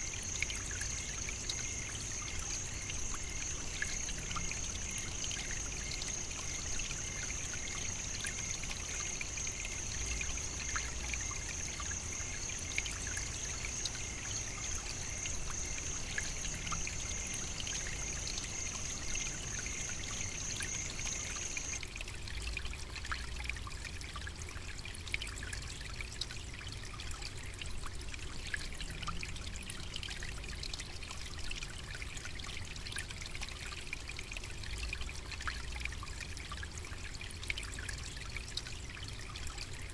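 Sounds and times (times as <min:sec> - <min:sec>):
trickling running water: 0:00.0 - 0:39.9.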